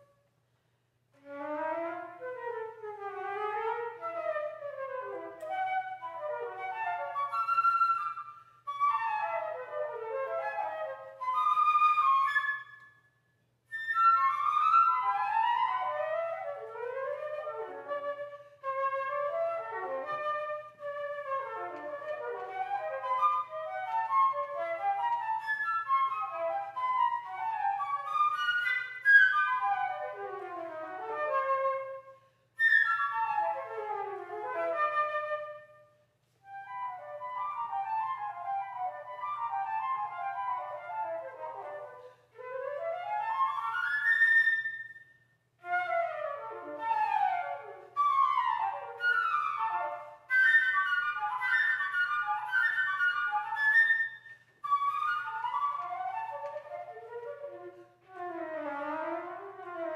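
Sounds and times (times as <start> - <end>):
solo flute playing: 1.2 - 59.9.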